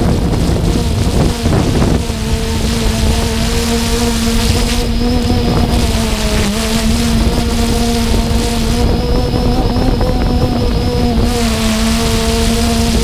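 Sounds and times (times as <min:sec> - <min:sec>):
drone motors droning: 0:00.0 - 0:13.0
wind rushing: 0:00.0 - 0:13.0.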